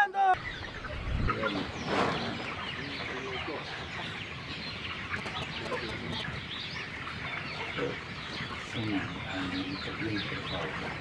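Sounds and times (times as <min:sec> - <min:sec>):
chickens clucking and cheeping: 0:00.0 - 0:11.0.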